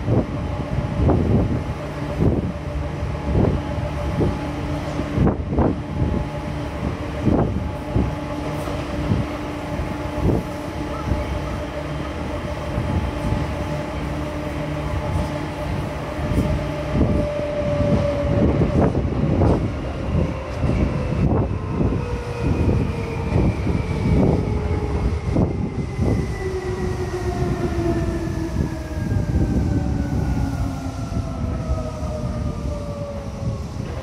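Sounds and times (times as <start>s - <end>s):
electric train whine: 0.0s - 34.0s.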